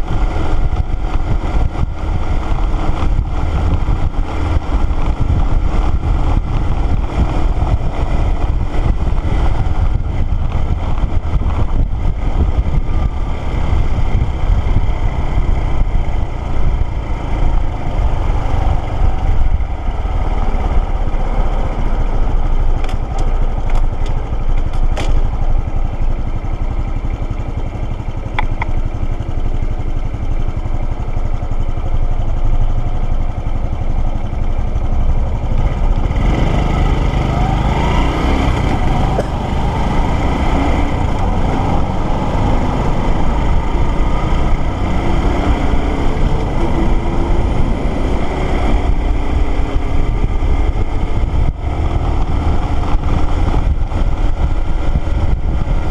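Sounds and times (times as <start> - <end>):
motorcycle engine revving: 0.0 - 55.9
wind noise on microphone: 0.0 - 55.9.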